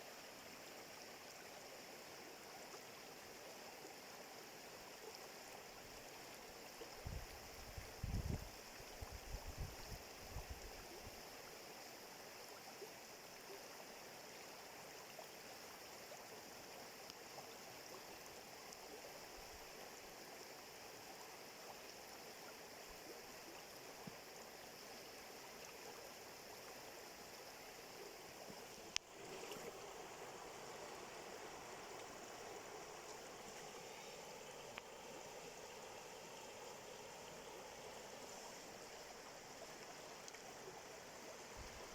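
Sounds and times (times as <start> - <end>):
stream running: 0.0 - 41.9.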